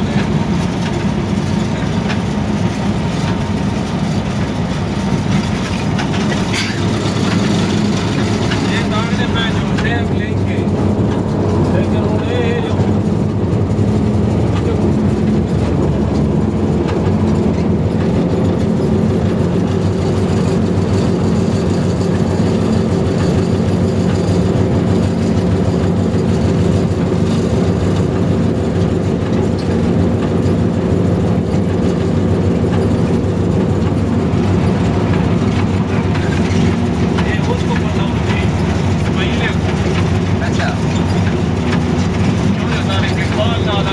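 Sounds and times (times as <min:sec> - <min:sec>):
locomotive engine droning: 0:00.0 - 0:43.9
wheels on rails: 0:00.0 - 0:43.9.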